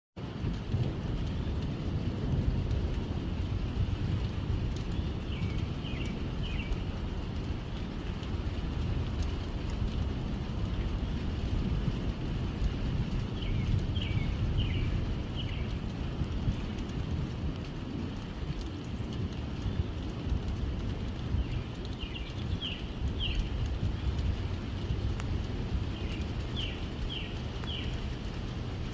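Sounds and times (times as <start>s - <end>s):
low rumble of thunder: 0.2s - 28.9s
steady rain: 0.2s - 28.9s.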